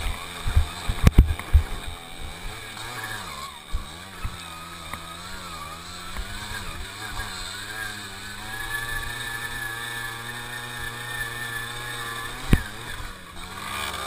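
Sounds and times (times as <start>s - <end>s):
knocks and rattles on rough trail: 0.0s - 14.0s
moped engine revving: 0.0s - 14.0s.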